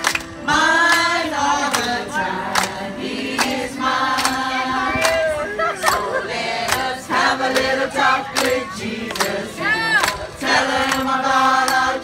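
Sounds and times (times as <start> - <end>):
group singing into microphones: 0.3 - 12.0.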